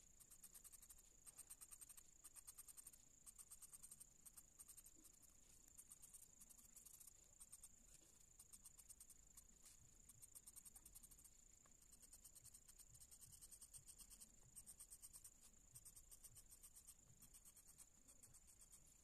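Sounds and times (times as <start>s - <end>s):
pencil shading on paper: 0.0s - 19.0s.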